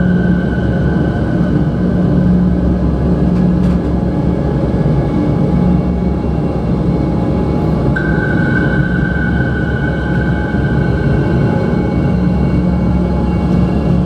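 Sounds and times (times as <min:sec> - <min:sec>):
drone music: 0:00.0 - 0:03.5, 0:04.1 - 0:14.0.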